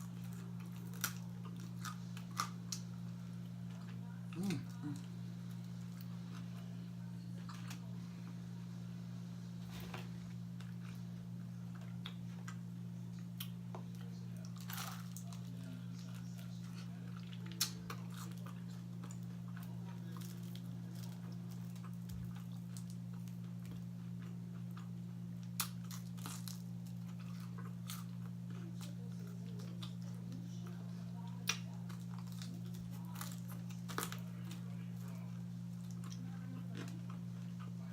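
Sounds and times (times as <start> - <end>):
chewing crunchy fried food: 0.0 - 8.4, 9.7 - 37.9.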